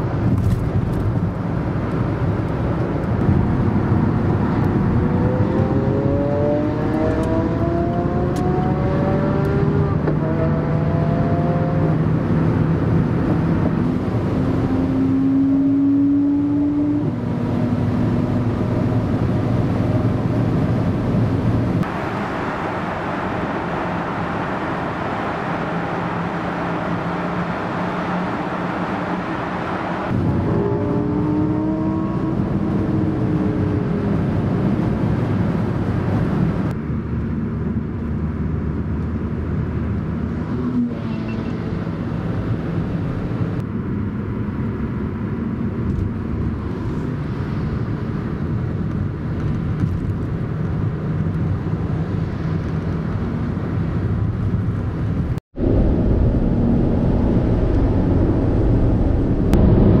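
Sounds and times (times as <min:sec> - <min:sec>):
sports car engines: 0:00.0 - 1:00.0
wind and tyre noise: 0:00.0 - 1:00.0.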